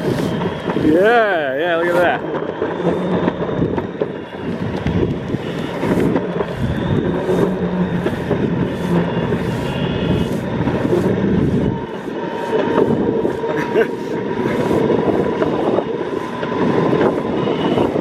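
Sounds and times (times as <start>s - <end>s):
longboard wheels rolling on pavement: 0.0s - 18.0s.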